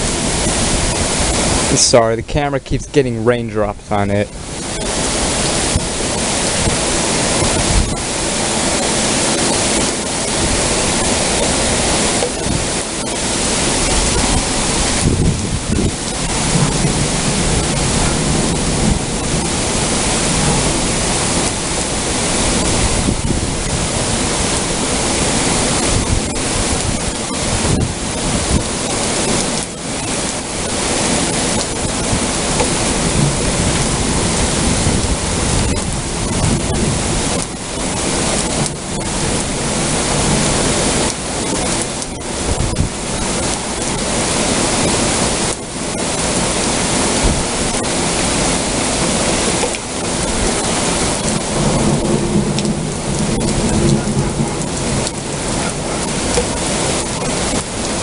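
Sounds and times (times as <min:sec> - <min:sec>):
heavy rain pouring: 0:00.0 - 0:58.0
wind gusting on microphone: 0:00.0 - 0:58.0.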